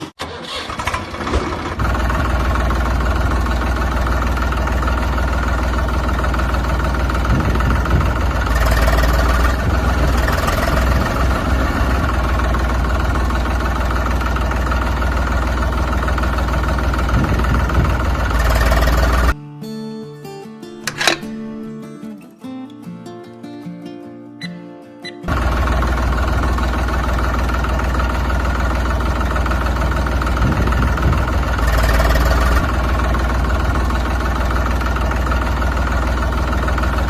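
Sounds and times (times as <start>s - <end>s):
engine idling: 0.0s - 19.4s, 25.3s - 37.0s.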